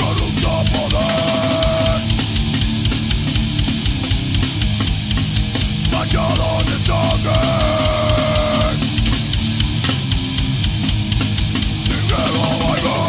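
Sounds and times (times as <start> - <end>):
metal band playing: 0.0 - 13.0.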